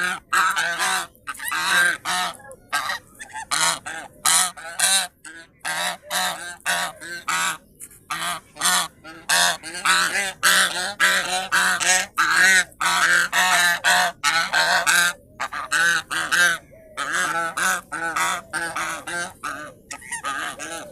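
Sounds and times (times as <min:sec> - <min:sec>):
geese honking: 0:00.0 - 0:20.9.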